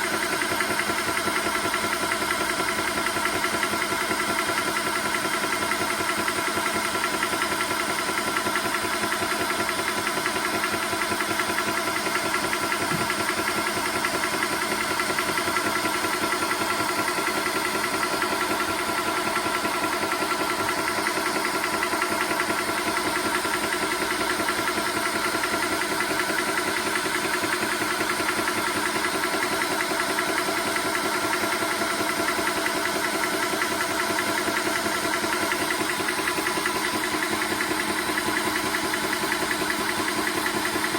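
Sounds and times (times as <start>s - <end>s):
air compressor pumping: 0.0s - 40.9s.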